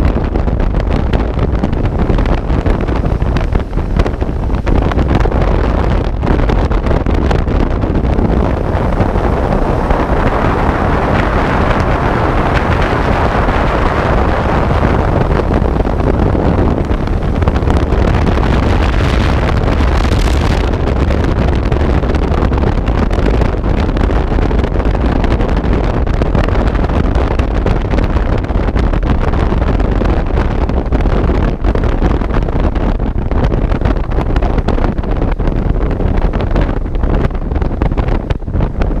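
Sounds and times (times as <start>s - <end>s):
road noise: 0.0s - 39.0s
wind buffeting microphone: 0.0s - 39.0s.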